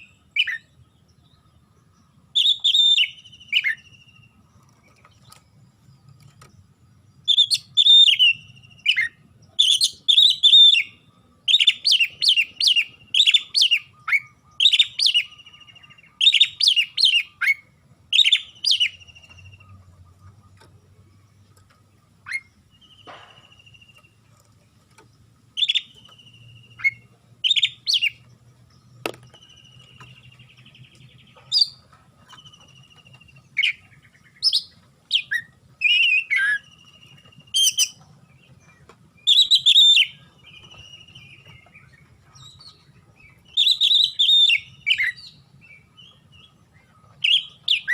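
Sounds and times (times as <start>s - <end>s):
bird singing sharp chirps: 0.0s - 4.4s, 7.2s - 21.6s, 25.5s - 38.0s, 38.6s - 47.9s.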